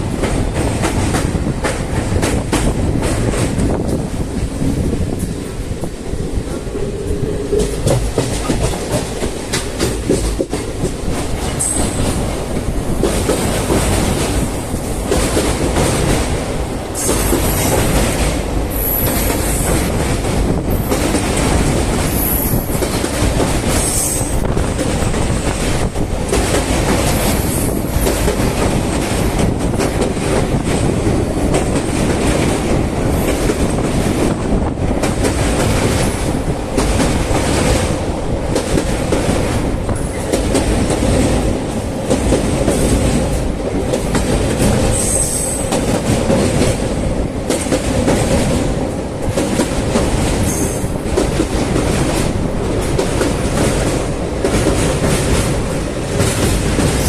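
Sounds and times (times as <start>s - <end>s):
train wheels clacking: 0.0s - 57.0s.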